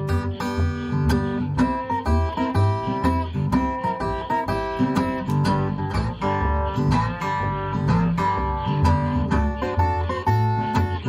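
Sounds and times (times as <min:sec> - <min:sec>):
acoustic guitar blues picking: 0:00.0 - 0:11.0
washtub bass plucking: 0:00.0 - 0:11.0.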